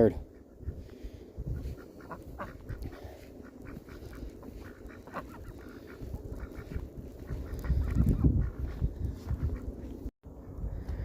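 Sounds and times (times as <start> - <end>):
ducks quacking: 0.0 - 9.9
geese honking: 0.2 - 9.9.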